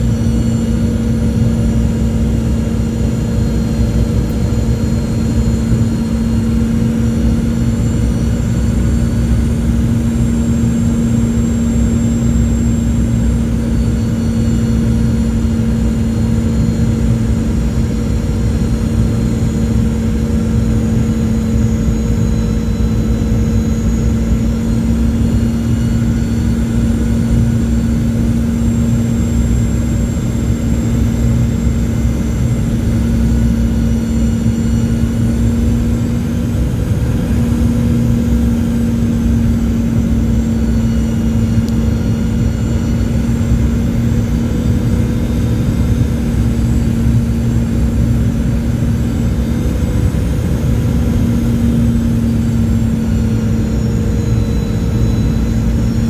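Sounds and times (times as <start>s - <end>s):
airplane cabin rumble: 0.0s - 56.0s
faint high whines: 0.0s - 56.0s
low hum: 0.0s - 56.0s.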